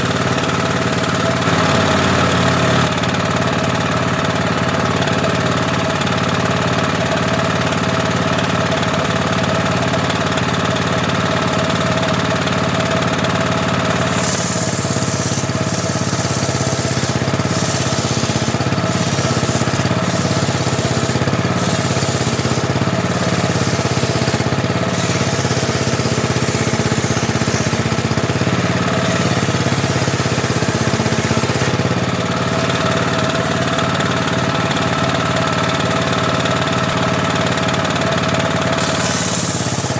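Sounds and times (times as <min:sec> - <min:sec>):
saw blade cutting wood: 0:00.0 - 0:39.9
table saw motor running: 0:00.0 - 0:39.9.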